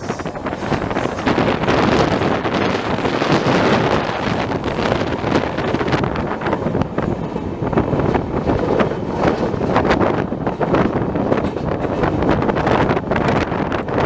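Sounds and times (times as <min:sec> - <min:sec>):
train running on track: 0:00.0 - 0:14.0
wind buffeting microphone: 0:00.0 - 0:14.0.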